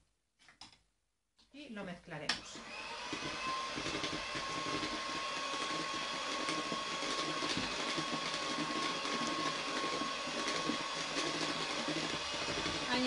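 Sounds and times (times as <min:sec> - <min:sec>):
electric hand mixer running: 0:02.4 - 0:13.0.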